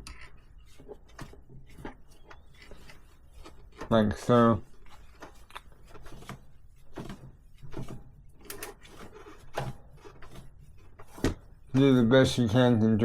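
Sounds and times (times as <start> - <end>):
cloth rubbing metal cassette: 0.0 - 12.9.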